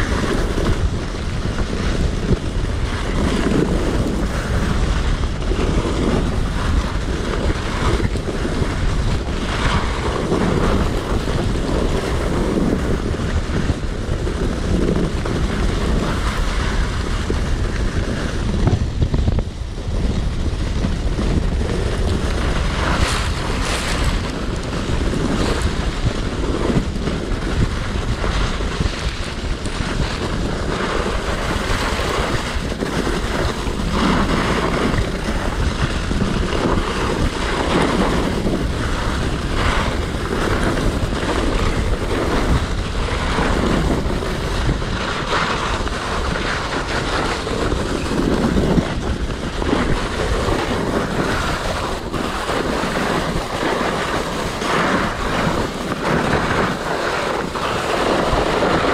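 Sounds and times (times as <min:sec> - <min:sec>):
skis scraping over snow: 0:00.0 - 0:58.9
wind buffeting microphone: 0:00.0 - 0:58.9.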